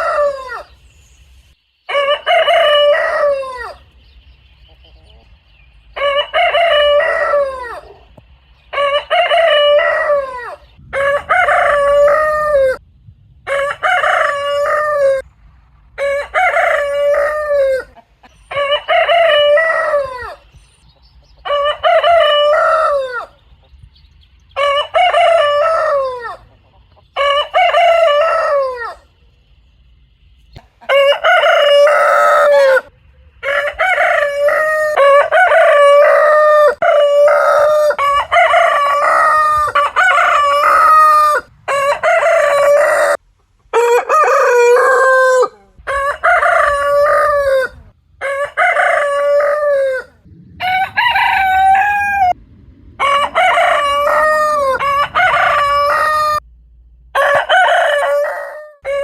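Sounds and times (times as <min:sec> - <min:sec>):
rooster crowing: 0:00.0 - 0:00.9, 0:01.9 - 0:03.9, 0:06.0 - 0:08.1, 0:08.7 - 0:12.8, 0:13.5 - 0:15.3, 0:16.0 - 0:20.5, 0:21.4 - 0:23.4, 0:24.6 - 0:26.5, 0:27.1 - 0:29.1, 0:30.8 - 0:52.4, 0:53.0 - 0:56.4, 0:57.1 - 0:59.0.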